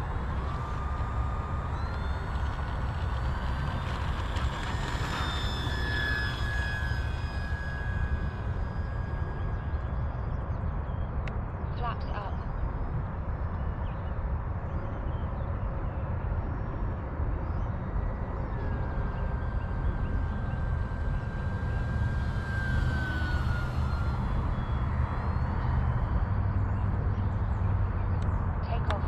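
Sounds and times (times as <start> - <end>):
model plane motor whine: 0.0 - 29.0
steady low rumble: 0.0 - 29.0.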